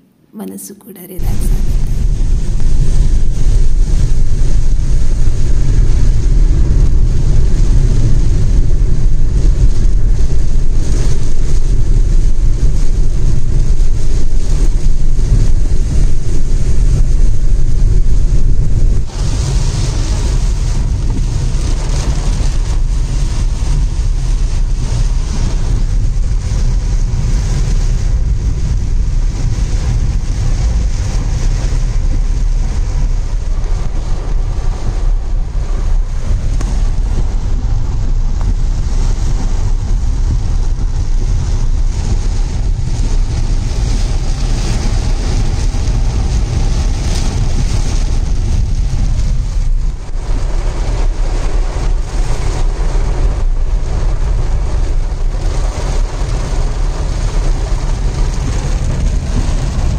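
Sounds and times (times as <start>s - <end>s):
vehicle road rumble: 1.1s - 59.9s.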